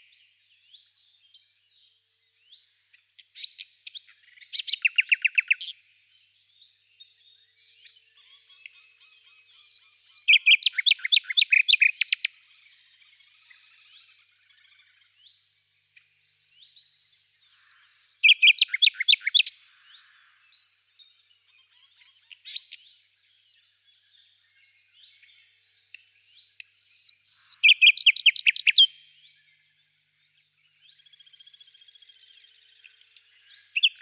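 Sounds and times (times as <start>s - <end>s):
faint bird chirps: 0.0s - 34.0s
songbird singing: 0.0s - 34.0s.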